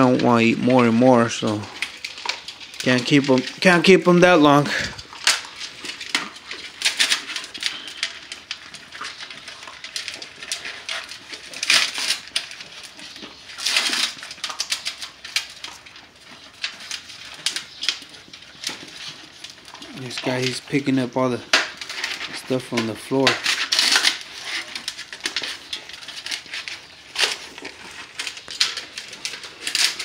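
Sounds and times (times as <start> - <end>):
puppies crunching dry kibble: 0.0 - 30.0.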